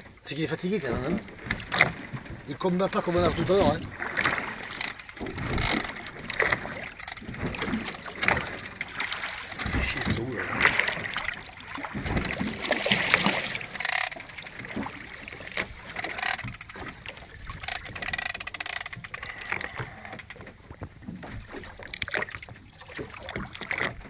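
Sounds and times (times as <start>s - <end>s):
knocks and clicks aboard boat: 0.0s - 24.0s
water rushing: 0.0s - 24.0s.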